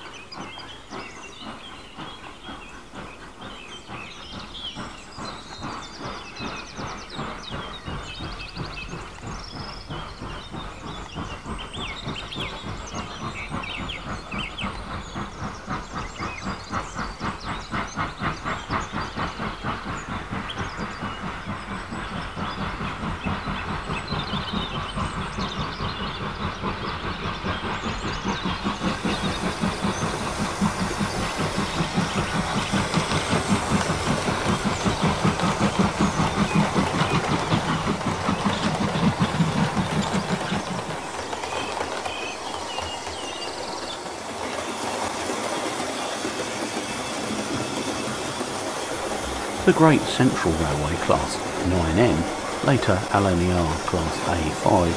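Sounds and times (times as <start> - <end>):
hiss: 0.0 - 54.9
model train wheels clicking: 0.0 - 54.9.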